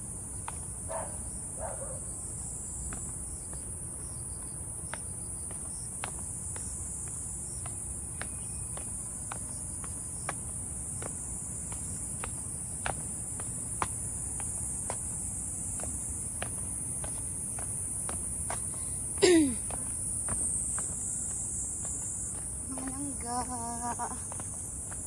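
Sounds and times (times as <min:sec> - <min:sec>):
high-pitched insect chorus: 0:00.0 - 0:25.0
footsteps on a trail: 0:02.2 - 0:25.0.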